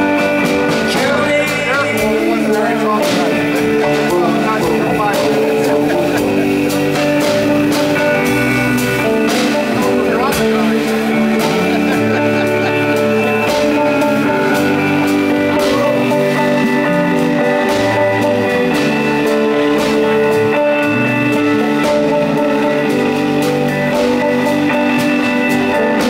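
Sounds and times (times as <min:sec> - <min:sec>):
drum kit hits: 0:00.0 - 0:26.0
electric bass line: 0:00.0 - 0:26.0
electric guitar sustained chords: 0:00.0 - 0:26.0.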